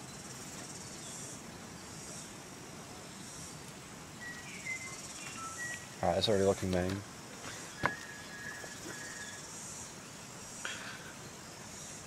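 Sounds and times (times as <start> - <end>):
faint steady hiss: 0.0 - 12.0
insects chirping: 0.0 - 12.0.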